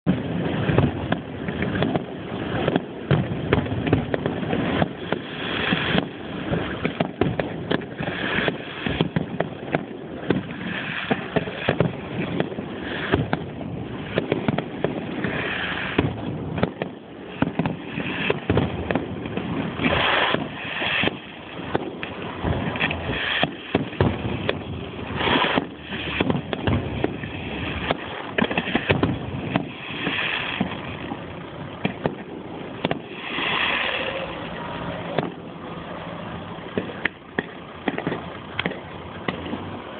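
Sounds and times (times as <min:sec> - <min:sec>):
fireworks bangs and crackles: 0:00.0 - 0:39.9
fizzing crackle: 0:00.1 - 0:35.4.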